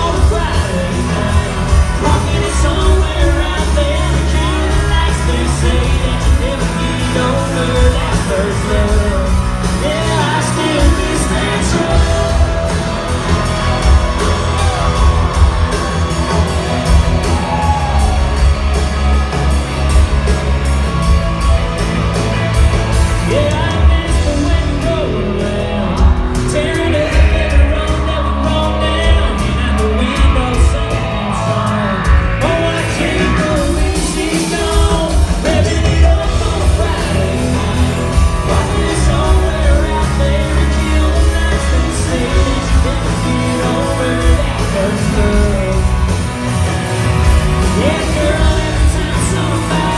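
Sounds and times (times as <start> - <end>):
person singing: 0.0 - 18.5, 23.2 - 49.9
drums: 0.0 - 49.9
electric guitars: 0.0 - 49.9
heavy bass: 0.0 - 49.9.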